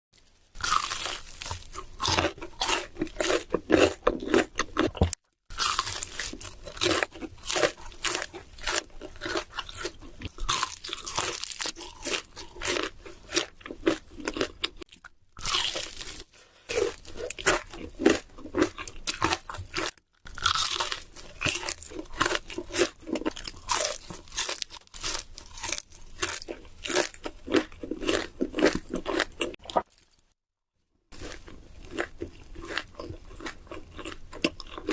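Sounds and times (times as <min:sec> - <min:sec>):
crunchy food being chewed: 0:00.2 - 0:30.4, 0:31.1 - 0:34.9.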